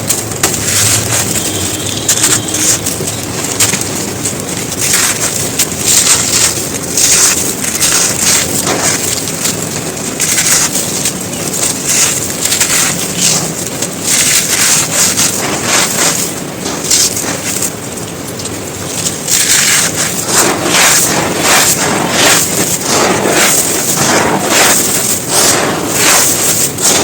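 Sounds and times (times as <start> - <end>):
dry earth lumps crunching: 0.0 - 27.0.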